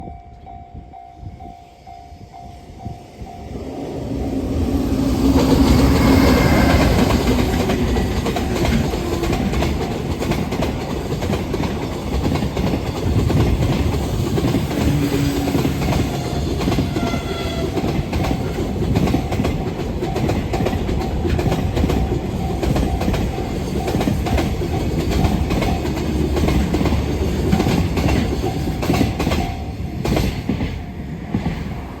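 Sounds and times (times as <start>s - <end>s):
freight train passing: 0.0s - 32.0s.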